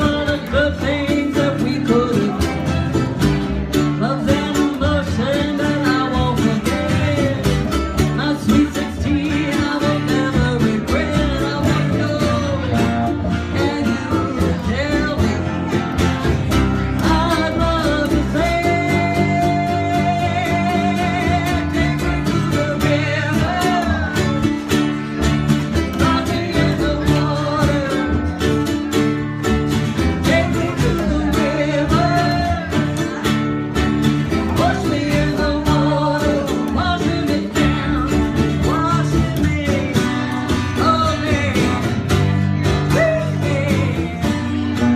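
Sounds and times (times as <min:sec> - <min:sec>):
country band music with guitar: 0:00.0 - 0:44.9.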